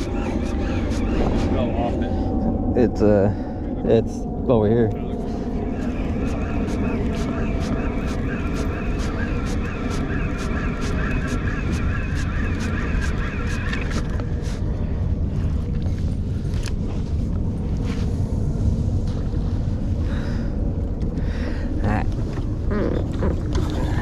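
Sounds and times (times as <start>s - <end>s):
boat engine low rumble: 0.0s - 24.0s.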